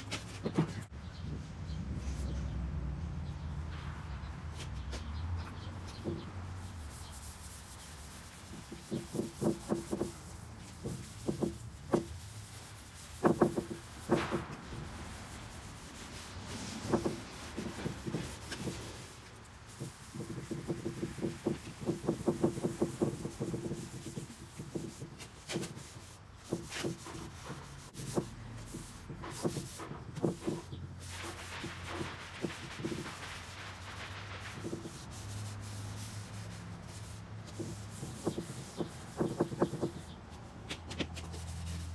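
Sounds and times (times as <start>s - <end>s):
cloth rag rubbing wood: 0.0s - 0.9s, 4.6s - 41.9s.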